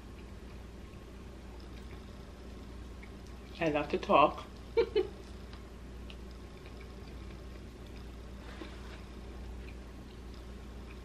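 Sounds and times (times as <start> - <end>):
faint chewing: 0.0 - 3.7, 4.4 - 11.0
low steady hum: 0.0 - 11.0.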